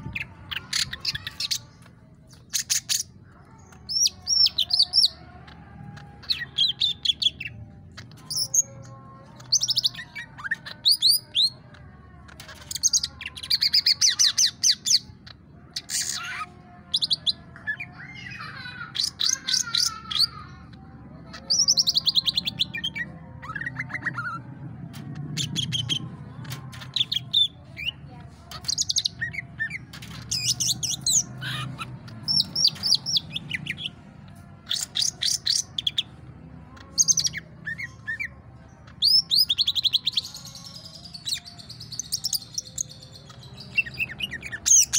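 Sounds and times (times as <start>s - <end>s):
bird chirping and trilling: 0.0s - 44.9s.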